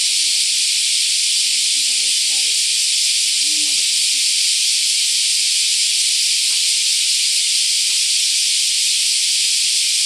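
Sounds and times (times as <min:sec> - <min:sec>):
cicadas singing: 0:00.0 - 0:10.0.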